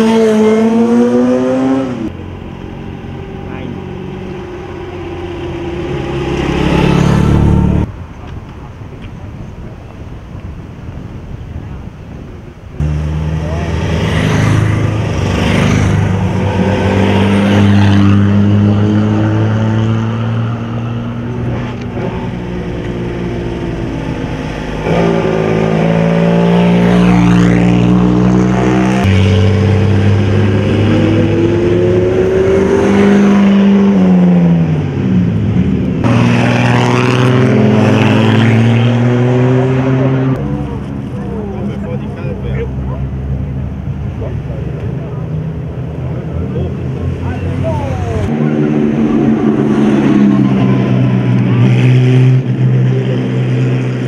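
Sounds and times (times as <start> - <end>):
racing car engines passing: 0.0 - 8.0, 12.8 - 54.0.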